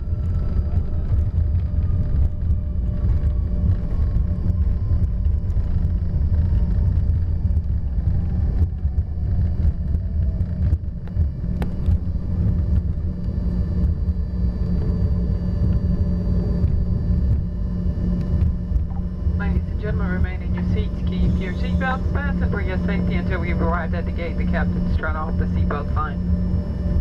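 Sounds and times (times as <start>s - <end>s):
low rumble of wheels and airframe: 0.0s - 27.0s
turbofan engines whining: 0.0s - 27.0s.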